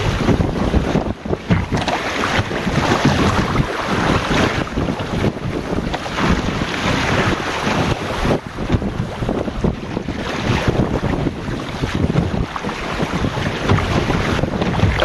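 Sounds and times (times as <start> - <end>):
water splashing along boat hull: 0.0 - 15.0
wind buffeting microphone: 0.0 - 15.0.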